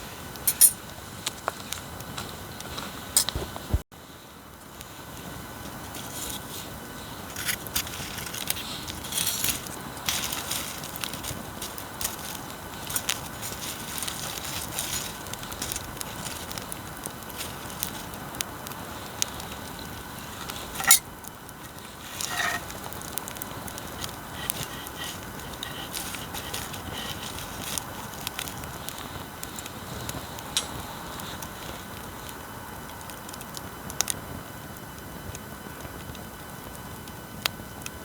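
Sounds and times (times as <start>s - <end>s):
bonfire crackling and popping: 0.0s - 38.0s
steady hiss: 0.0s - 38.0s.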